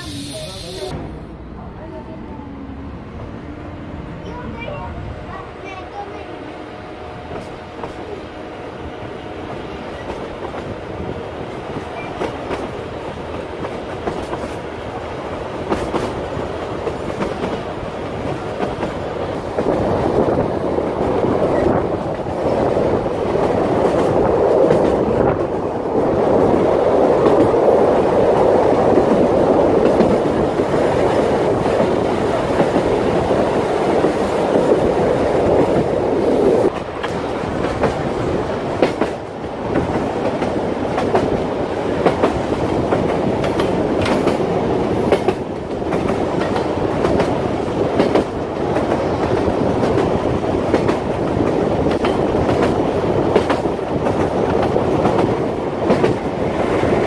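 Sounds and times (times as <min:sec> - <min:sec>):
train running noise: 0:00.0 - 0:57.0.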